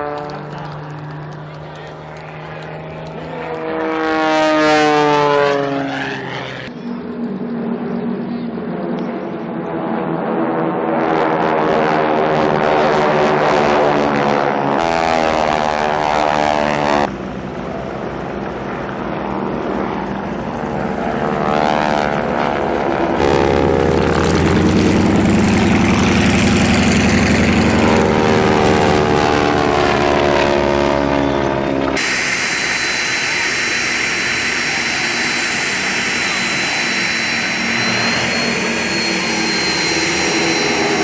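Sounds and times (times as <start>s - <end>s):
propeller airplane flying past: 0.0s - 41.0s.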